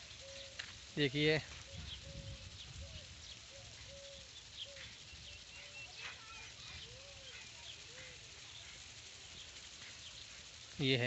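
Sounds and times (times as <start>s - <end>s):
low arched bird calls: 0.0s - 11.0s
thin high bird chirps: 0.0s - 11.0s.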